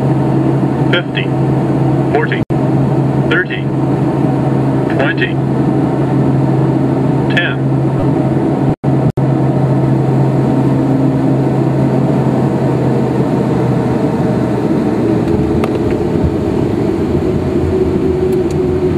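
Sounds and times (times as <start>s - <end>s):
aircraft engines and airflow drone: 0.0s - 18.9s
deep rumble: 0.0s - 18.9s
high steady hum: 0.0s - 18.9s.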